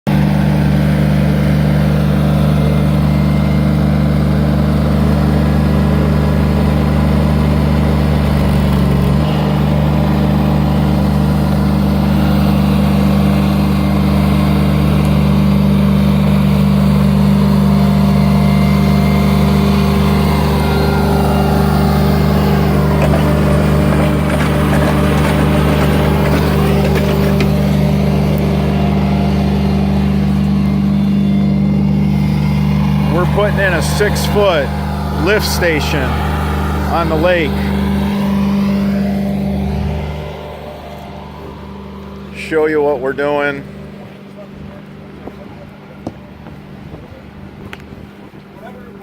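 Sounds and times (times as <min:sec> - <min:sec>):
engine idling: 0:00.1 - 0:49.0.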